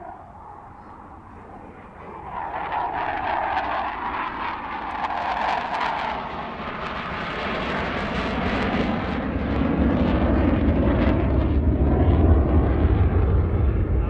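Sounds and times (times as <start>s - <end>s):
fighter jet passing overhead: 0.0s - 14.0s.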